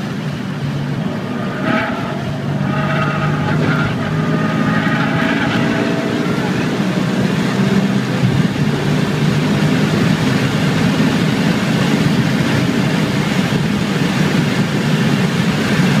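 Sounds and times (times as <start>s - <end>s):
car engine revving hard: 0.0s - 16.0s
wind and road noise: 0.0s - 16.0s.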